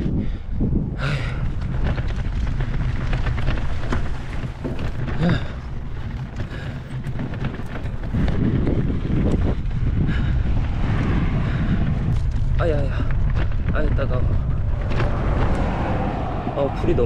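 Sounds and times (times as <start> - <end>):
bike clicks and rattles: 0.0 - 16.2
wind buffeting microphone: 0.0 - 17.0.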